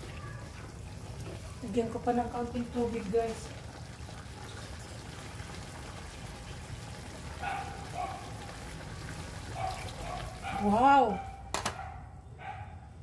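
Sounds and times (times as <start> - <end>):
water boiling off as steam: 0.0 - 11.1.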